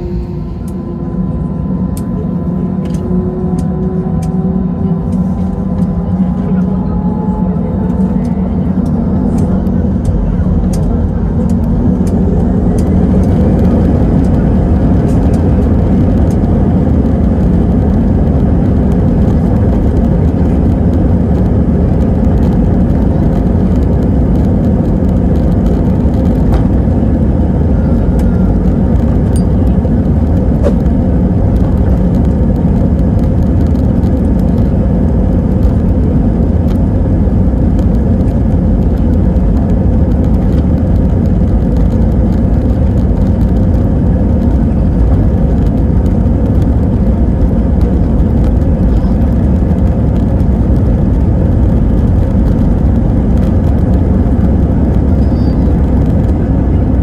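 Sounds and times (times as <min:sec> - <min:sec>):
faint rising whine: 0:00.0 - 0:57.0
jet engines from inside cabin: 0:00.0 - 0:57.0.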